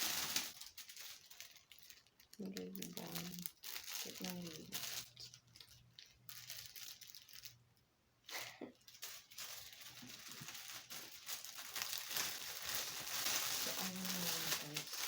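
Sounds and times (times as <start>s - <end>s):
packaging crinkling and rustling: 0.0s - 7.6s, 8.8s - 15.0s.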